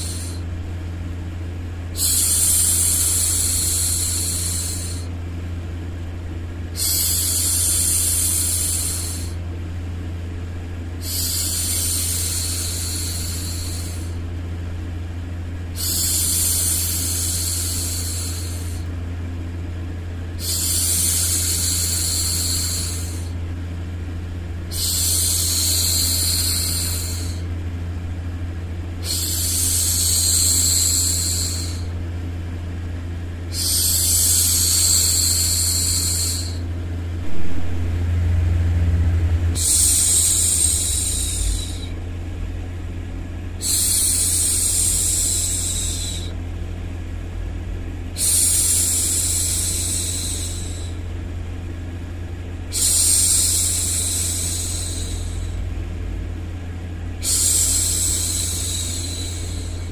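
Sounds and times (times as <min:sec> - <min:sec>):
low hum: 0:00.0 - 0:59.9
steady white noise: 0:00.0 - 0:59.9.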